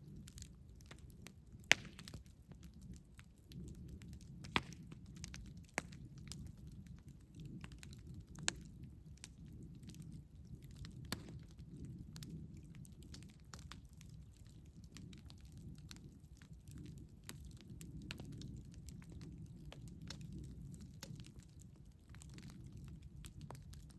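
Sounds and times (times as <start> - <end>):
burning wood crackling and popping: 0.0 - 23.9
campfire low rumble: 0.0 - 23.9.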